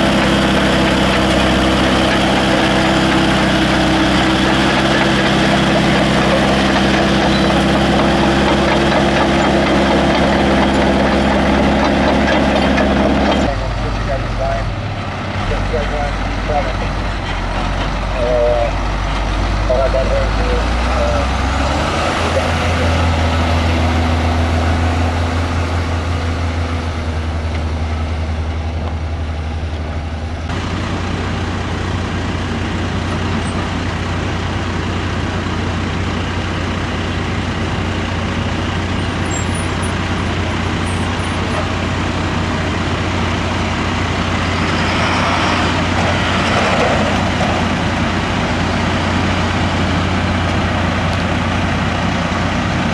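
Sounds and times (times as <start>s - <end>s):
fire engines driving: 0.0s - 52.9s
tyre and road noise: 0.0s - 52.9s.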